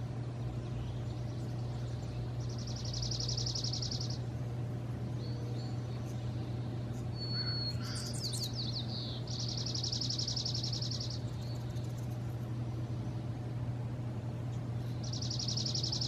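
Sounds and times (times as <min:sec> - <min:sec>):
low hum: 0:00.0 - 0:16.0
songbirds singing: 0:00.0 - 0:16.0.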